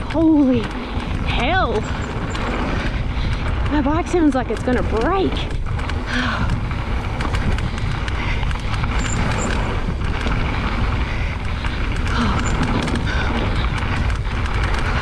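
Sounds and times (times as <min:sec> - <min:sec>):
bike rattling and clattering: 0:00.0 - 0:15.0
tyres rumbling on trail: 0:00.0 - 0:15.0
wind on microphone: 0:00.0 - 0:15.0.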